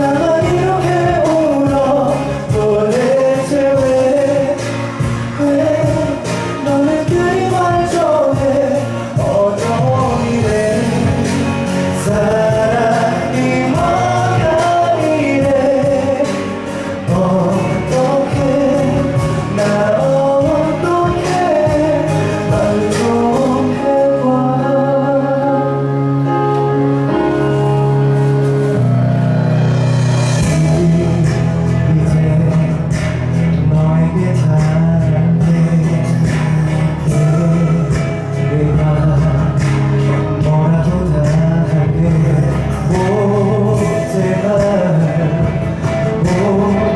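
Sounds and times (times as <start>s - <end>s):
man singing into microphone: 0.0s - 27.0s, 30.3s - 46.9s
instrumental accompaniment: 0.0s - 46.9s
low bass notes: 0.0s - 46.9s.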